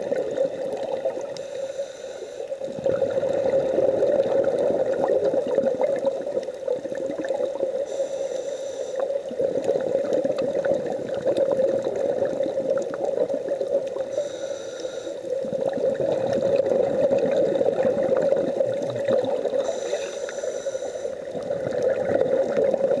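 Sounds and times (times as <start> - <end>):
muffled rush of water: 0.0 - 23.0
hissing bubbles from diver exhaling: 2.6 - 8.3, 8.9 - 23.0.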